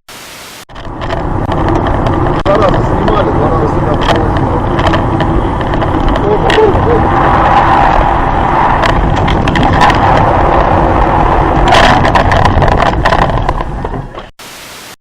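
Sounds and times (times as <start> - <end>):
car driving on road: 0.7 - 14.3.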